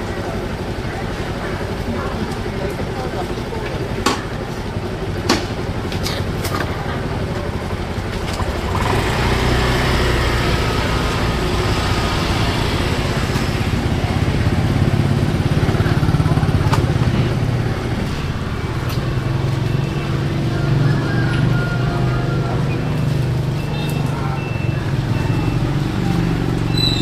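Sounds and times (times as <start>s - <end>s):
motorbike engine running: 0.0s - 27.0s.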